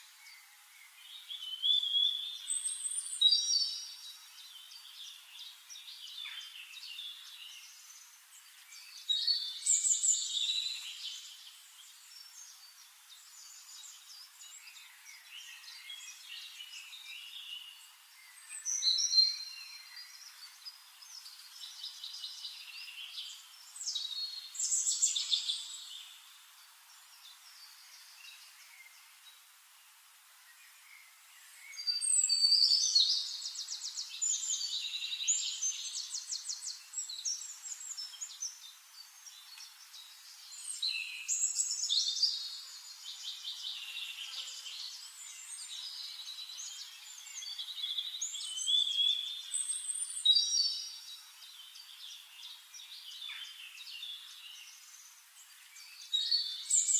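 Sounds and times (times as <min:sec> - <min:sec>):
faint hiss: 0:00.0 - 0:56.9
songbirds chirping and trilling: 0:00.0 - 0:56.9.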